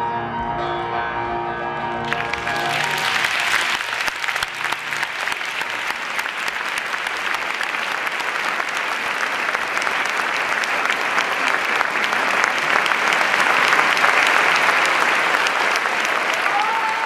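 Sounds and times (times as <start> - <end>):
audience applause: 2.0 - 17.0.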